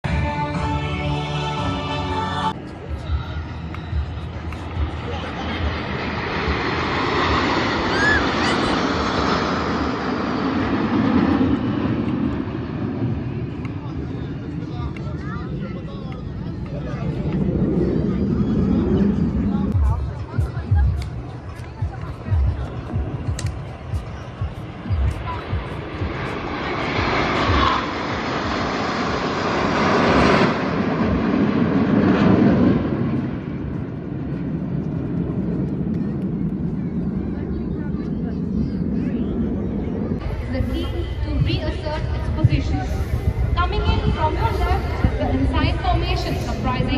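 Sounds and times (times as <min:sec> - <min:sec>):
aircraft flying over: 0:00.0 - 0:46.9.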